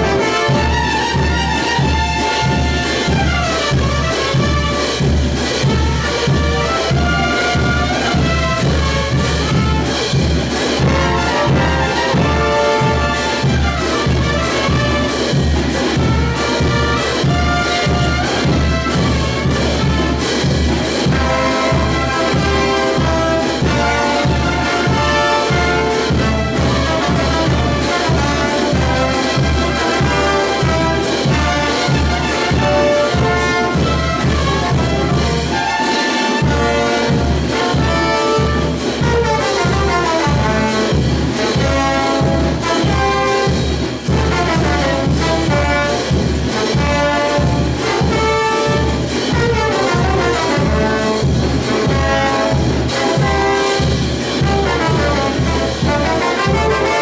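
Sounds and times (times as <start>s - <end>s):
brass band playing: 0.0s - 57.0s
steady drum beat: 0.0s - 57.0s.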